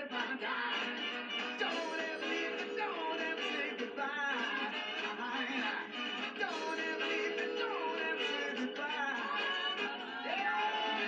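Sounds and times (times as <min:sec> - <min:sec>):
film music through television speakers: 0:00.0 - 0:11.0.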